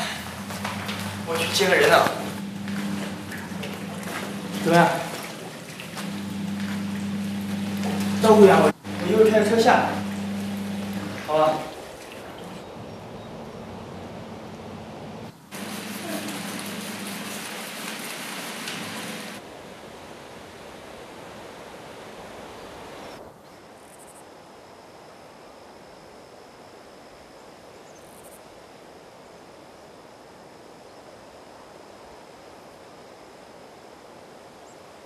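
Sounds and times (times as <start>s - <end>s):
faint high insect drone: 0.0s - 35.0s
steady outdoor hiss: 0.0s - 35.0s.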